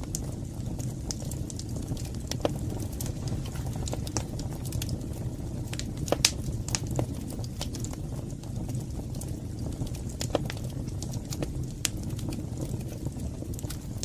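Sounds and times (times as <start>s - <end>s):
fire crackling and popping: 0.0s - 14.0s
fire roaring: 0.0s - 14.0s.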